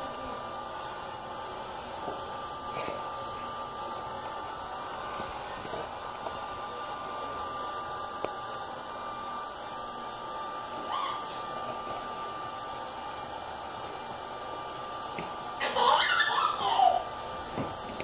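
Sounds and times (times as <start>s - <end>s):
thin steady whine: 0.0s - 18.0s.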